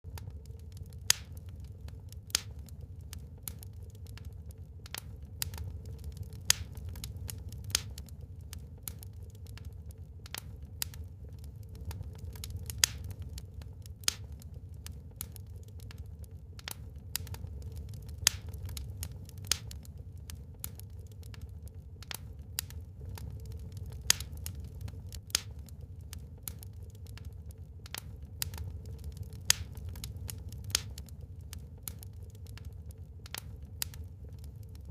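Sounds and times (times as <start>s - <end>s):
fire low rumble: 0.0s - 34.9s
wood fire crackling and popping: 0.0s - 34.9s.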